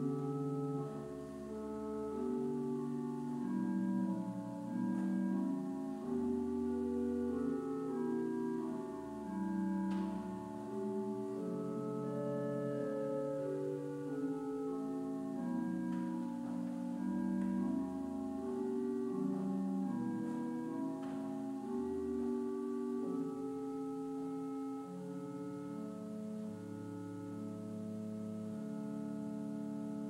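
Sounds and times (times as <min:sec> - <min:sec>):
deep organ pedal notes: 0:00.0 - 0:30.0
pipe organ chords: 0:00.0 - 0:30.0.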